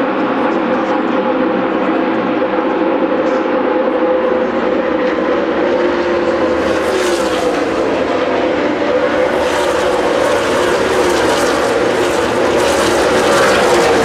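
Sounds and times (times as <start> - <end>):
race cars roaring past: 0.0 - 14.0.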